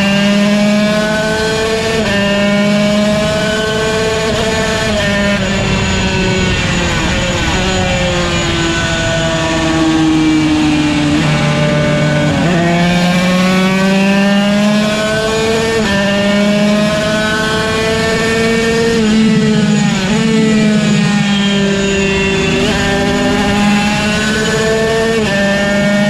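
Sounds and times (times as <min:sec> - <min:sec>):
two-stroke racing engine revving: 0:00.0 - 0:26.0.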